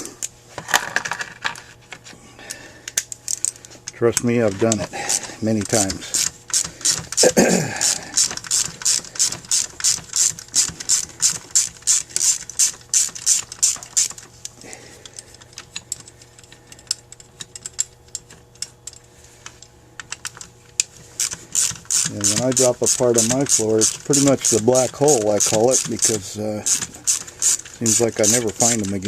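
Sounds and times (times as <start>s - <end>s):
rapid mechanical clicking: 3.0s - 29.0s.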